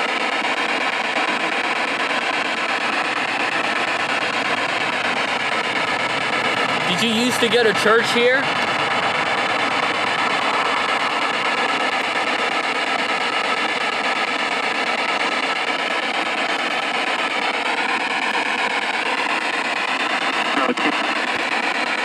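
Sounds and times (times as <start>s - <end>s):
radio static hiss: 0.0s - 21.9s.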